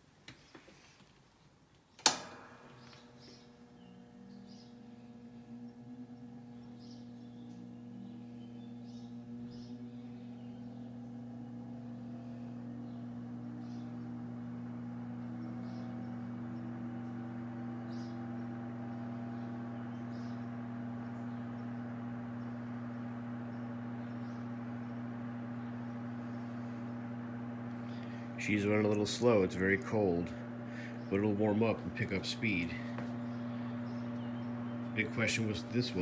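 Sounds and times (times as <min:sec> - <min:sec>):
electric fan running: 0:01.6 - 0:36.0.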